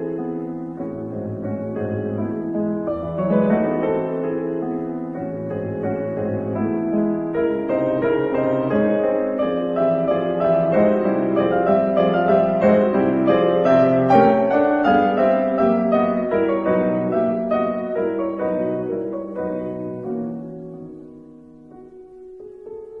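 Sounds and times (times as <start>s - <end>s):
slow gentle piano melody: 0.0s - 23.0s.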